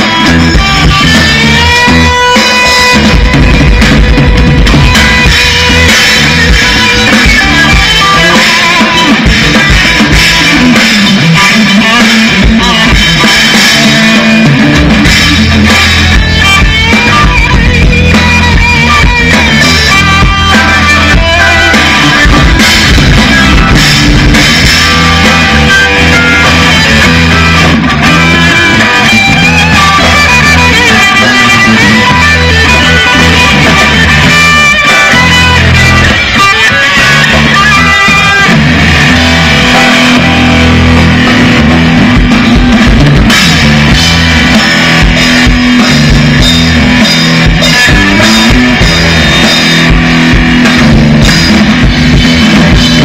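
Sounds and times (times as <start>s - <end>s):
drum kit: 0.0s - 53.0s
electric guitars: 0.0s - 53.0s.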